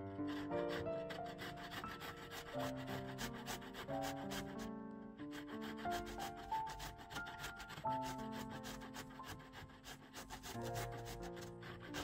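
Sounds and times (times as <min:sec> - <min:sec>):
soft background music: 0:00.0 - 0:12.0
cucumber grating: 0:00.2 - 0:12.0.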